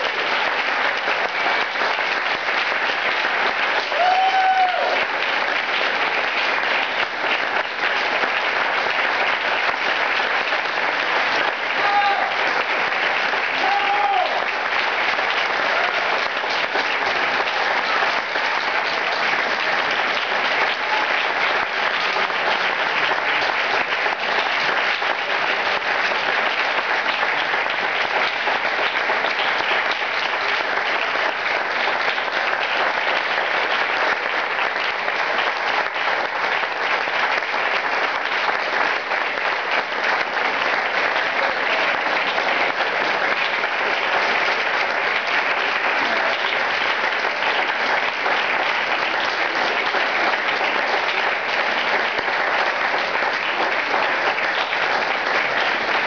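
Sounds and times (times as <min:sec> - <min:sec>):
audience applauding: 0:00.0 - 0:56.0.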